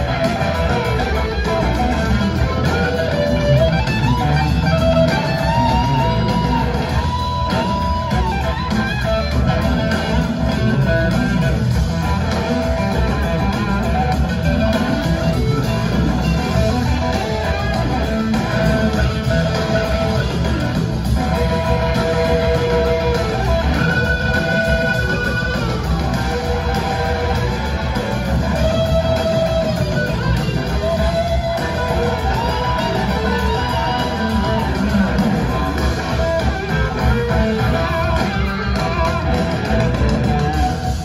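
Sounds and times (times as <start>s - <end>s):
electric guitar: 0.0s - 41.0s
live blues-rock band playing: 0.0s - 41.0s.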